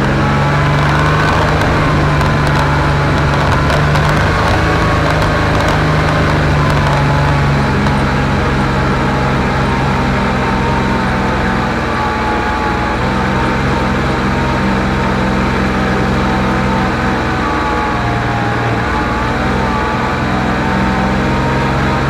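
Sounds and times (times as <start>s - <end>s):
utility vehicle engine under load: 0.0s - 22.0s.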